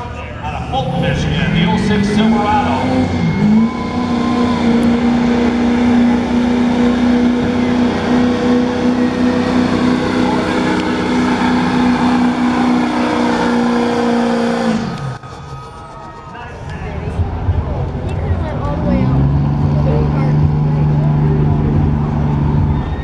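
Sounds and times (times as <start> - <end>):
diesel engine at high revs: 0.0 - 23.0.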